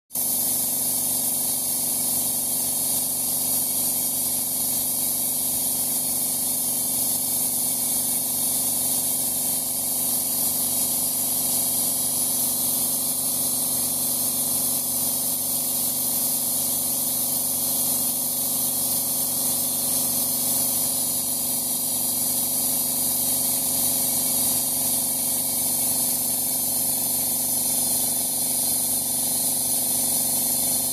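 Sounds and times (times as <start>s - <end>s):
paint spraying hiss: 0.1s - 30.9s
sprayer motor hum: 0.2s - 30.9s.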